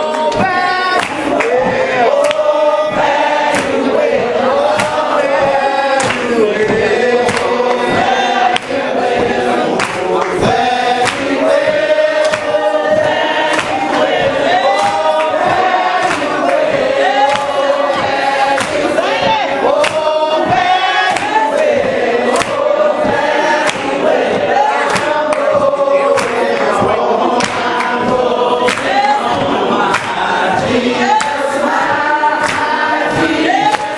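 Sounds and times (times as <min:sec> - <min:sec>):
congregation singing a hymn: 0:00.0 - 0:33.9.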